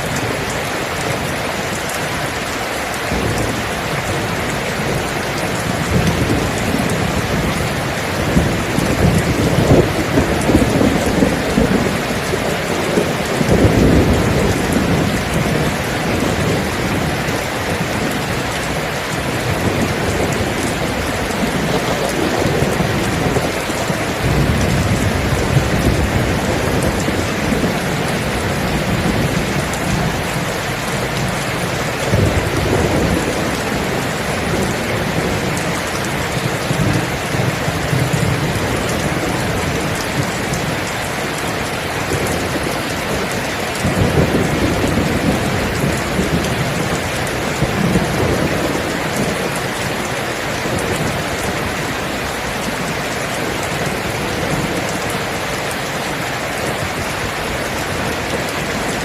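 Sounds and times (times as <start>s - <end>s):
heavy rain: 0.0s - 59.0s
rolling thunder: 3.1s - 40.9s, 41.6s - 55.0s.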